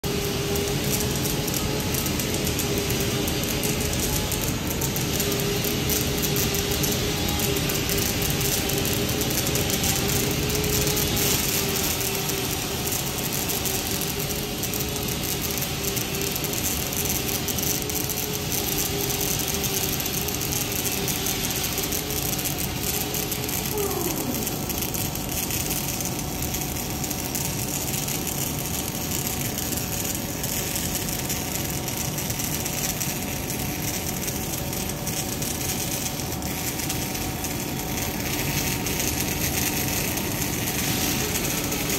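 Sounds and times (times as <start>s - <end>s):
welding arcs crackling and hissing: 0.0s - 41.9s.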